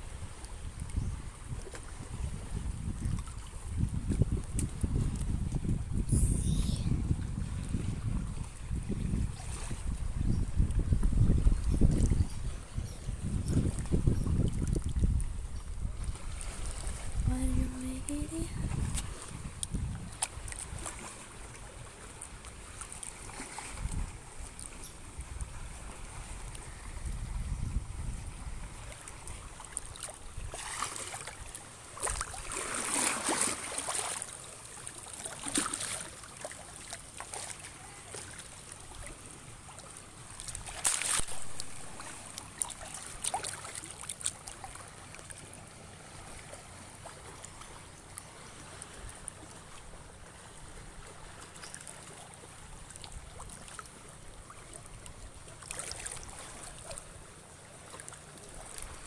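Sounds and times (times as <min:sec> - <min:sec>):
waves lapping on rocks: 0:00.0 - 0:59.0.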